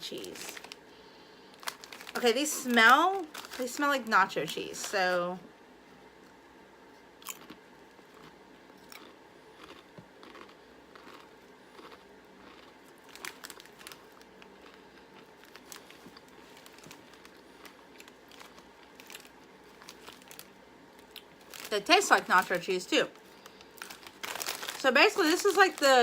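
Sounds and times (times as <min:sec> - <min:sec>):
tortilla chips crunching: 0:01.5 - 0:03.8, 0:07.2 - 0:26.0.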